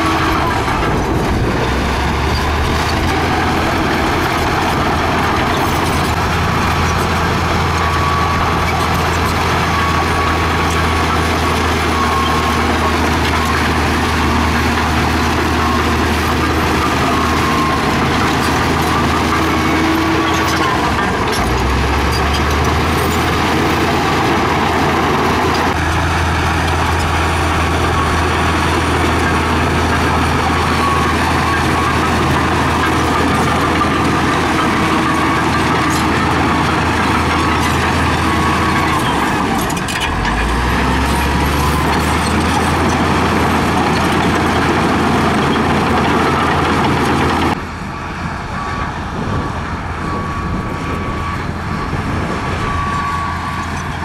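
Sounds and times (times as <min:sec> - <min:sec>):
dozer diesel engine running: 0:00.0 - 0:54.0.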